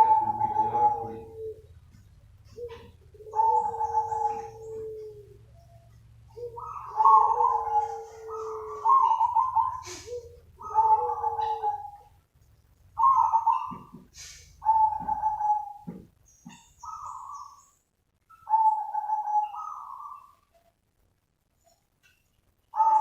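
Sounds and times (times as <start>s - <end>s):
dove cooing: 0.0s - 12.2s, 13.0s - 17.7s, 18.3s - 20.5s, 22.7s - 23.0s.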